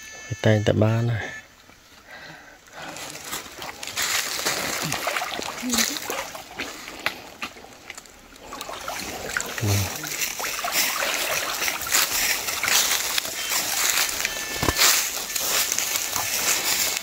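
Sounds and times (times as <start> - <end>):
water splashing as person wades: 2.9 - 17.0.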